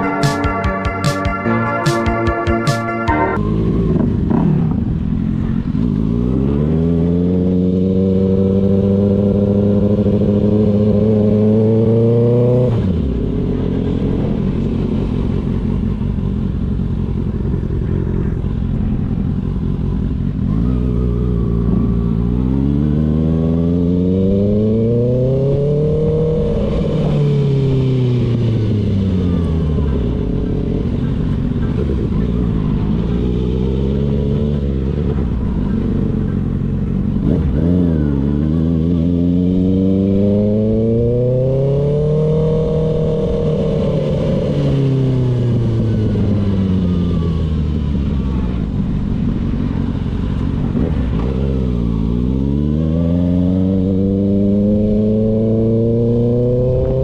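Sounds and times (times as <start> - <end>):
motorcycle engine revving: 3.3 - 57.0.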